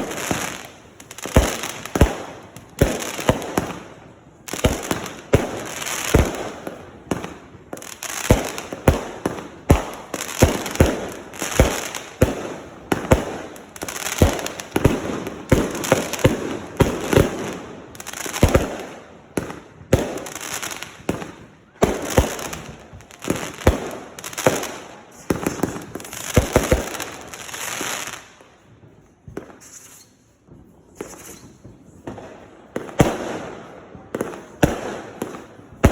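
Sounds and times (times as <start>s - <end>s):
fireworks bangs: 0.0s - 35.9s
fireworks crackle: 0.0s - 35.9s.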